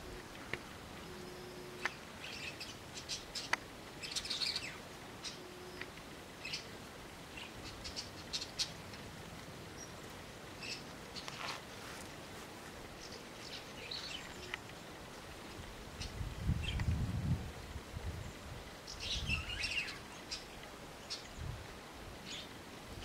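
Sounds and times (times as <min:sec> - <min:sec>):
small birds chirping: 0:00.1 - 0:12.1, 0:12.7 - 0:17.0, 0:18.1 - 0:21.6.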